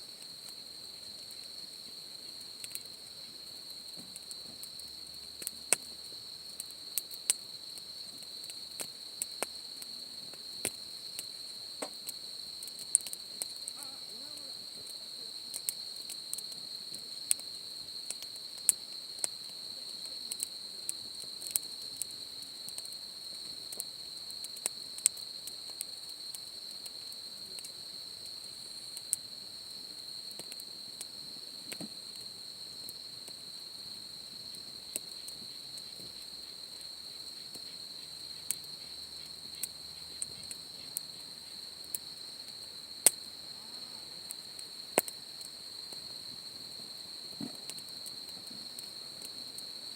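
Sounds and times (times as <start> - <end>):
campfire crackling and popping: 0.0 - 49.9
insects trilling: 0.0 - 49.9.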